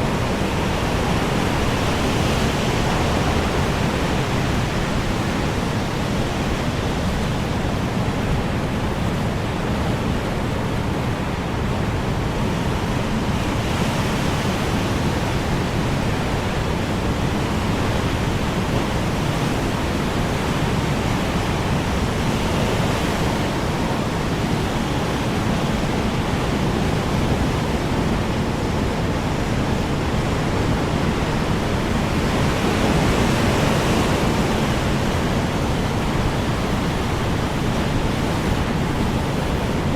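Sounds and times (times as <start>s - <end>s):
strong wind blowing: 0.0s - 39.9s.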